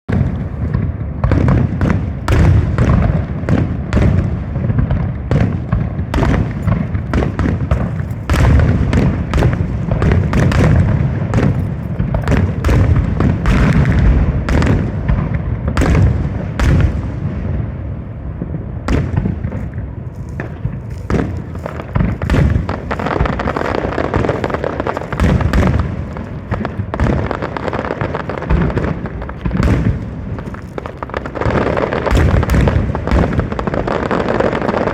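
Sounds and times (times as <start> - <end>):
fireworks bangs and thumps: 0.1 - 34.9.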